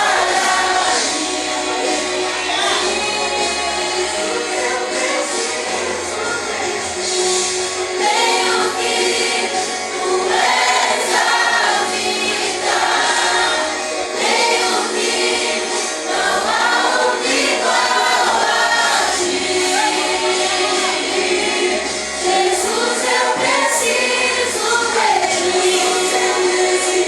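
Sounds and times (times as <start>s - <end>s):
group singing a worship song: 0.0s - 27.0s.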